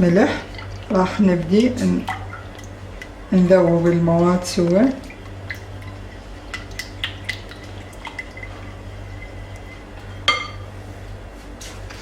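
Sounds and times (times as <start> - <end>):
small liquid sounds: 0.0 - 9.8.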